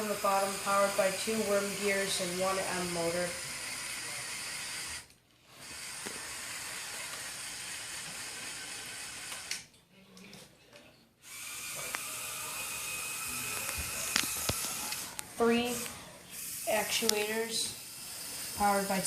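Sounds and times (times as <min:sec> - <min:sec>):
toy motor whirring: 0:00.0 - 0:09.7, 0:11.2 - 0:19.0.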